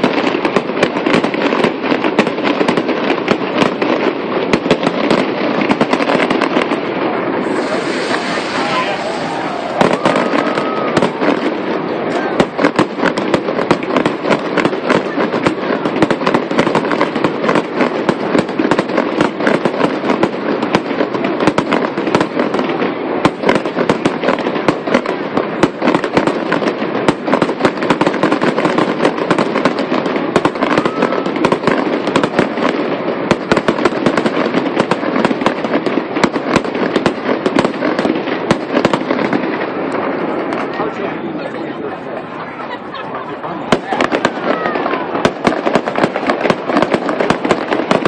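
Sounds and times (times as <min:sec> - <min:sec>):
fireworks crackling: 0:00.0 - 0:48.0.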